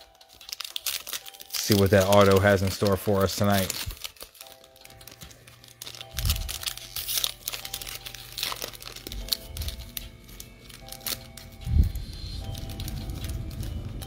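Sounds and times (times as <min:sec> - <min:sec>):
faint background music: 0:00.0 - 0:14.0
foil wrapper crinkling and tearing: 0:00.0 - 0:14.0.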